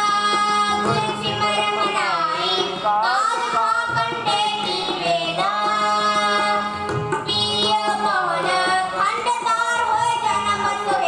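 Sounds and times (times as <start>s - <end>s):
boy singing devotional song: 0.0s - 11.0s
harmonium chord: 0.0s - 11.0s
tabla: 0.0s - 11.0s.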